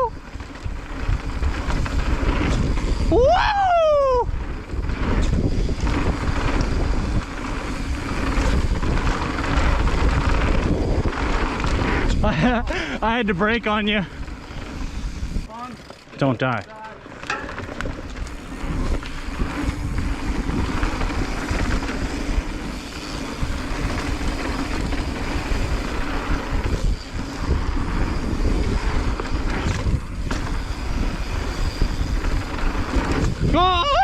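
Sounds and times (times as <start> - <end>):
wind buffeting microphone: 0.0 - 15.8, 17.7 - 34.0
bike tyres rolling over dirt: 0.0 - 34.0.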